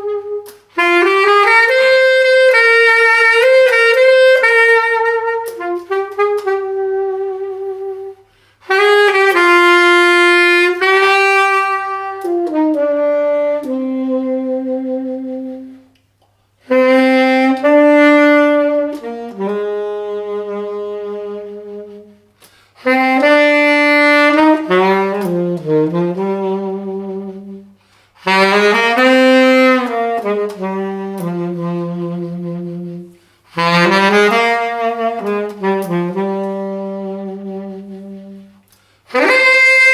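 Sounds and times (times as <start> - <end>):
solo saxophone melody: 0.0 - 39.9.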